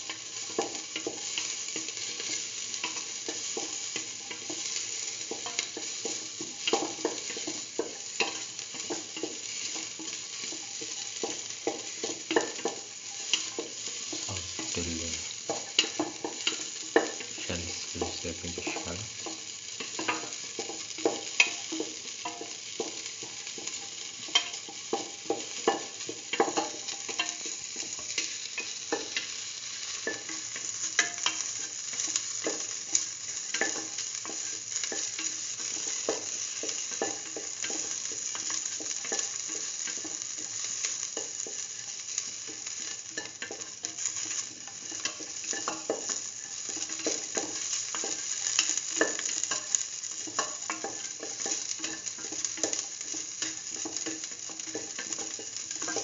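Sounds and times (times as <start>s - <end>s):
shallots sizzling in oil: 0.0s - 56.0s.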